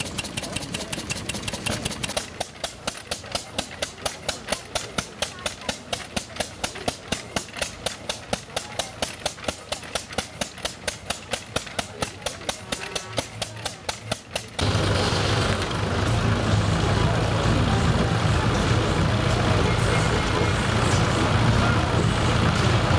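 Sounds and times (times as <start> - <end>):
drag saw cutting log: 0.0 - 22.9
single-cylinder engine running: 0.0 - 22.9
tractor engine drone: 0.0 - 22.9.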